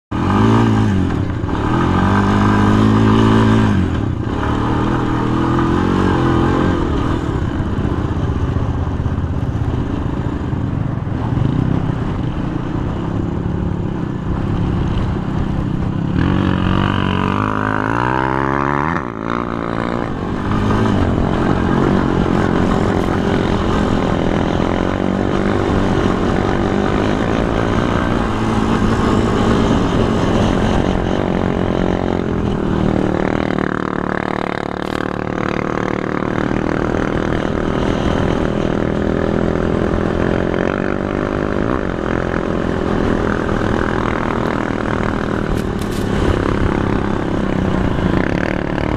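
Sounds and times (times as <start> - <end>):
quad engine revving: 0.1 - 8.5, 14.3 - 48.9.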